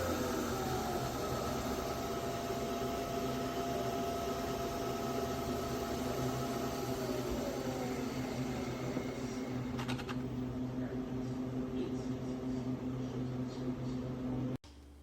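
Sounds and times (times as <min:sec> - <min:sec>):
coffee machine humming: 0:00.0 - 0:14.6.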